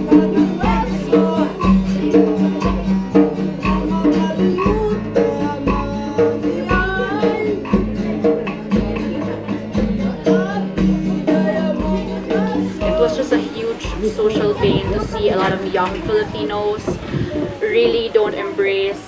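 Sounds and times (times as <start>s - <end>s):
man singing: 0.0s - 16.2s
hand drum beating: 0.0s - 18.8s
acoustic guitar: 0.0s - 19.0s.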